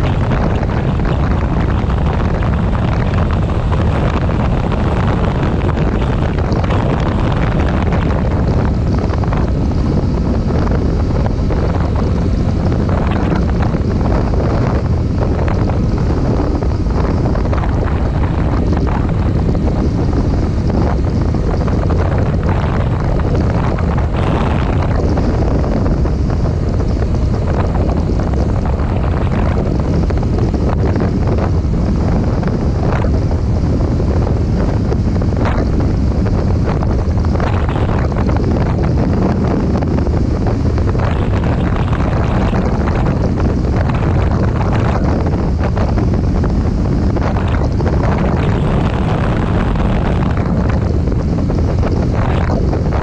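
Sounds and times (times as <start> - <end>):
motorcycle engine: 0.0 - 53.0
road noise: 0.0 - 53.0
wind buffeting microphone: 0.0 - 53.0.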